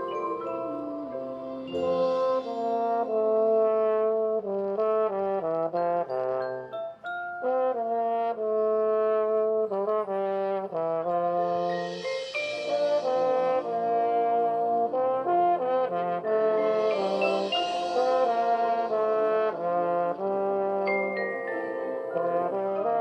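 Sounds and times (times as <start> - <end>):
marching band brass playing: 0.0 - 6.7, 7.4 - 23.0.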